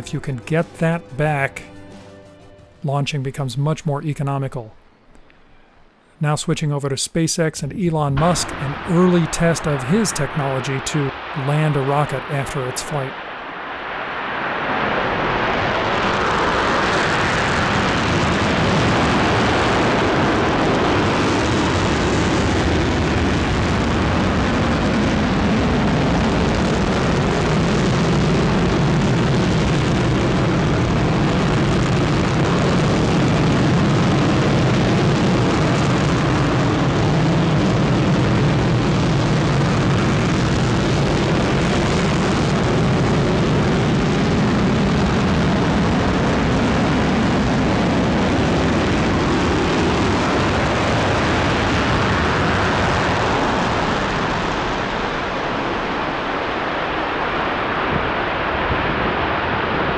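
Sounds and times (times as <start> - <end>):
rocket engine roaring: 0.0 - 2.0, 2.9 - 59.9.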